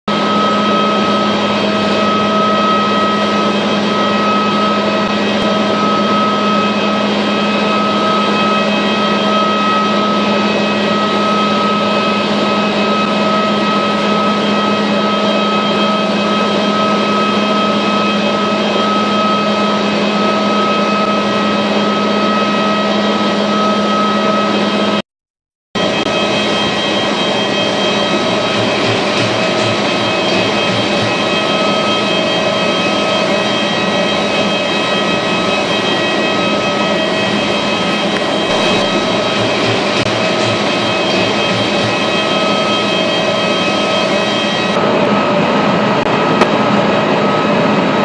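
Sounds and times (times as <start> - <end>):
high whine: 0.1 - 25.0, 25.8 - 48.0.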